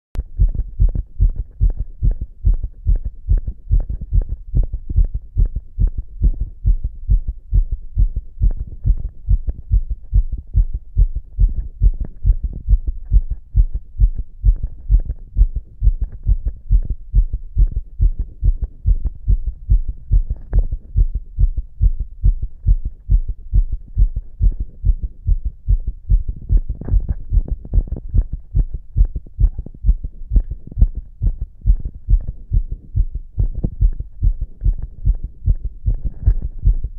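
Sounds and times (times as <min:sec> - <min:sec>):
heartbeat through stethoscope: 0:00.2 - 0:36.9.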